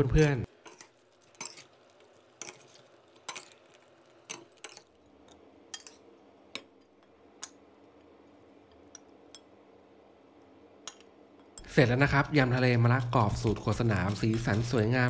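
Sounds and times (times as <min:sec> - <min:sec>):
faint steady hum: 0:00.0 - 0:13.4.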